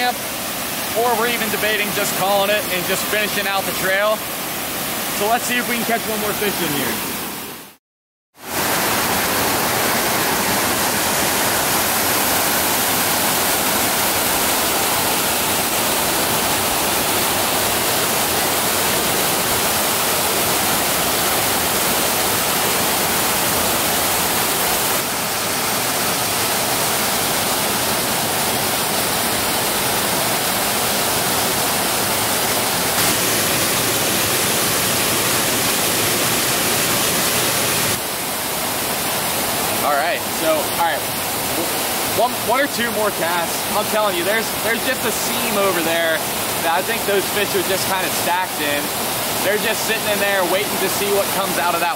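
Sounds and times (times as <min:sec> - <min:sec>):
waterfall rushing into pool: 0:00.0 - 0:07.8, 0:08.4 - 0:51.9.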